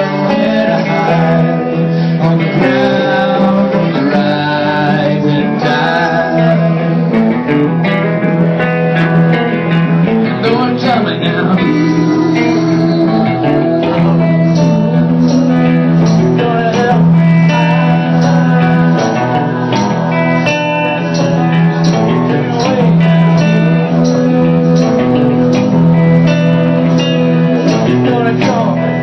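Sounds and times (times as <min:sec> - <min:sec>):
live rock band playing: 0:00.0 - 0:29.0
person singing: 0:00.0 - 0:29.0.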